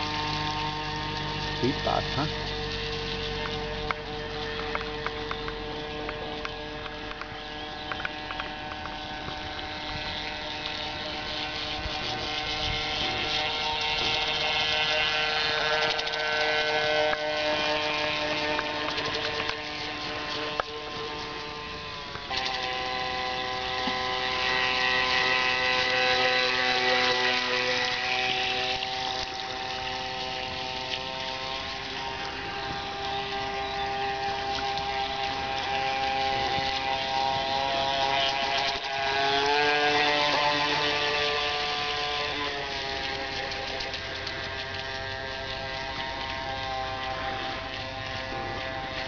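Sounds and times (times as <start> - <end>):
model boat motor whining: 0.0 - 49.0.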